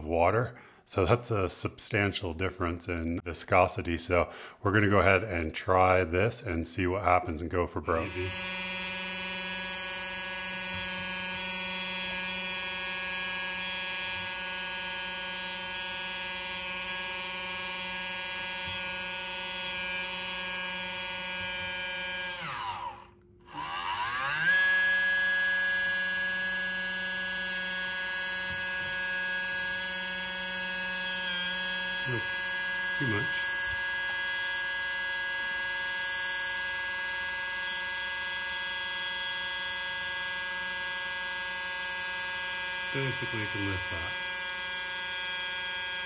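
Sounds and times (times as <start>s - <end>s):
electric pump motor whining: 7.9s - 46.0s.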